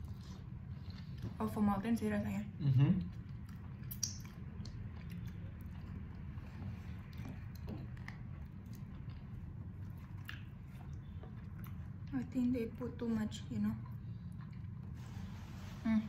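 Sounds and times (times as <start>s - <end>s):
people chewing: 0.0s - 12.8s, 13.6s - 15.6s.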